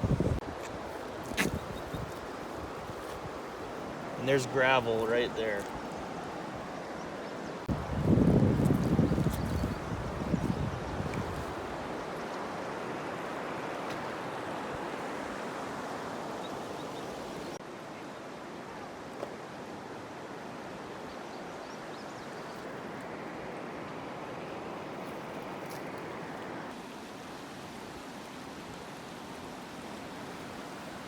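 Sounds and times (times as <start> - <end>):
river water rushing: 0.0 - 8.6, 9.7 - 21.0, 22.7 - 31.0.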